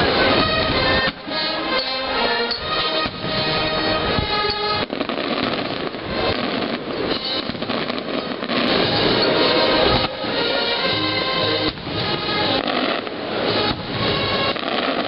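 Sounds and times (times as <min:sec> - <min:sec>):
fireworks popping and crackling: 0:00.0 - 0:15.0
music with held notes: 0:00.0 - 0:15.0.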